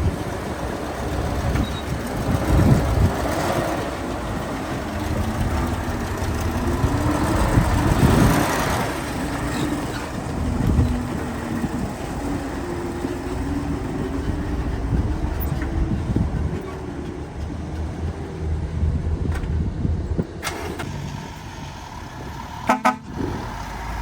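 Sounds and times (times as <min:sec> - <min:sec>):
heavy diesel machinery under load: 0:00.0 - 0:24.0.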